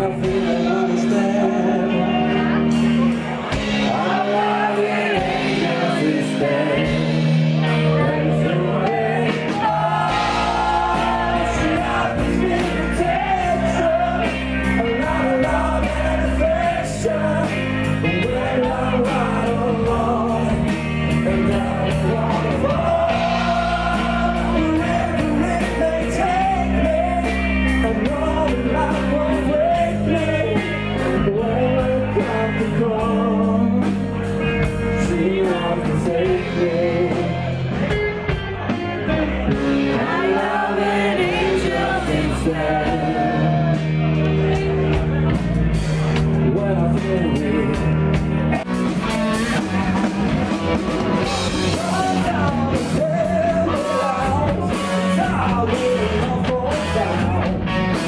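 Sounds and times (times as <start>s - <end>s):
loud rock music: 0.0s - 58.0s
singer: 0.0s - 58.0s
steady drum beat: 2.7s - 58.0s.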